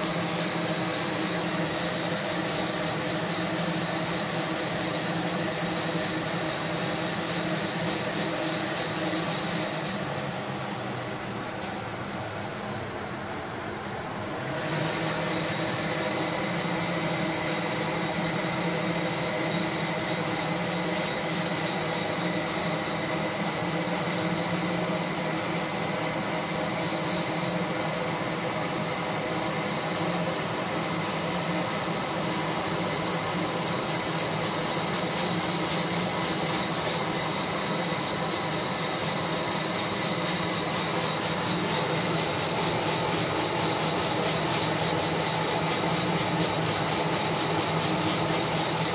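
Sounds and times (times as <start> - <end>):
coffee beans rattling: 0.0 - 11.6, 14.5 - 48.9
blower whir: 0.0 - 48.9.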